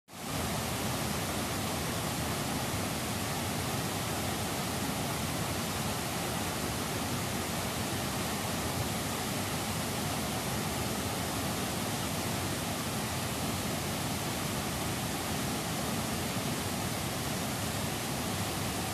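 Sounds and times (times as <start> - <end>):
white water rushing: 0.1 - 18.9.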